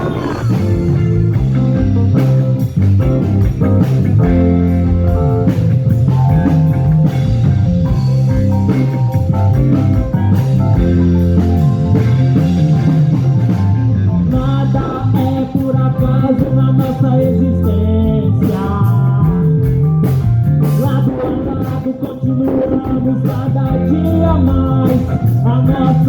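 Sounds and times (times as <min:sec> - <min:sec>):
bass: 0:00.0 - 0:26.0
drum kit: 0:00.0 - 0:26.0
electric guitar: 0:00.0 - 0:26.0.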